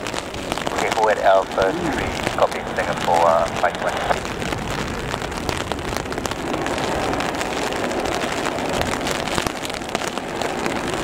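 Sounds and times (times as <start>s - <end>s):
rain pattering on umbrella: 0.0s - 11.0s
wind hitting umbrella: 0.0s - 11.0s.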